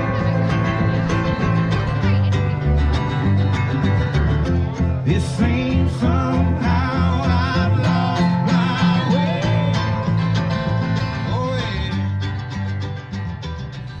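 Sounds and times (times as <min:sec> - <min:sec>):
song with guitar and vocals: 0:00.0 - 0:14.0.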